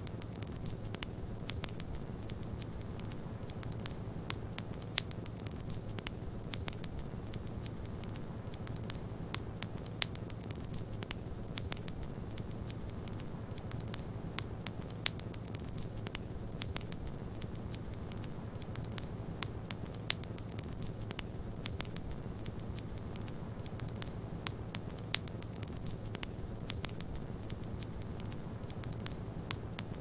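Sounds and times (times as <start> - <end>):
sharp pops and snaps: 0.0 - 30.0
wood fire crackling: 0.0 - 30.0.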